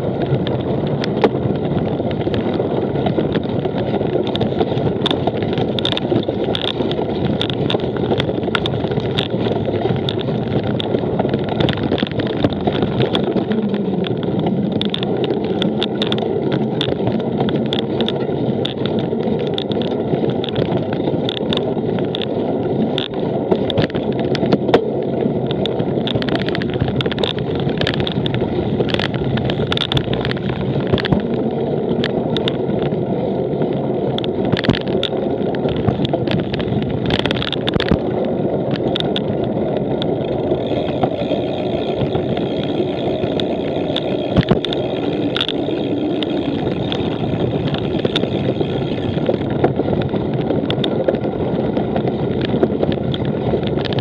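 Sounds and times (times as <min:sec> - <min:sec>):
bike clicks and rattles: 0:00.0 - 0:54.0
bike rumbling over rough ground: 0:00.0 - 0:54.0
wind on microphone: 0:00.0 - 0:54.0.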